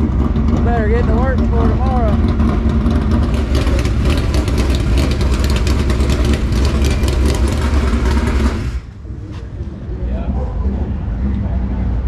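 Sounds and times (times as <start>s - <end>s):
race car engine rumbling: 0.0s - 12.0s.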